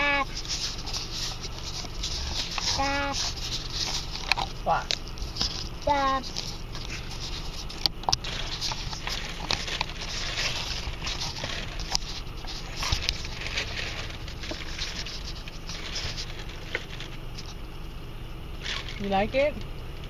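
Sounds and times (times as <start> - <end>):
light crackling and rustling: 0.0 - 18.0
car engine rumble: 0.0 - 20.0.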